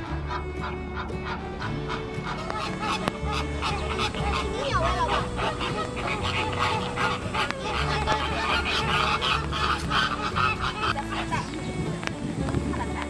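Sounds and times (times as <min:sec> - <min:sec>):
flamingos honking: 0:00.0 - 0:13.0
waltz music: 0:00.0 - 0:13.0.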